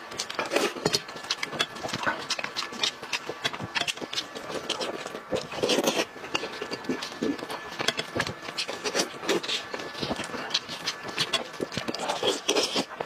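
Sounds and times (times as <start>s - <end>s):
meat tearing: 0.0s - 13.0s
wet chewing and lip smacks: 0.1s - 13.0s.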